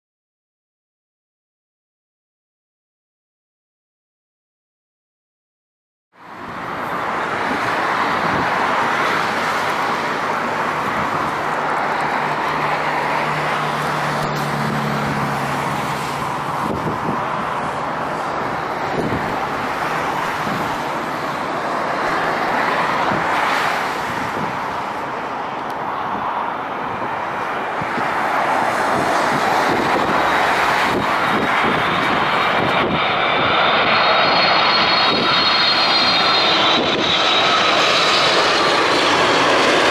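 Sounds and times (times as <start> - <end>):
high jet engine whine: 6.2 - 39.9
jet engines rushing: 6.2 - 39.9.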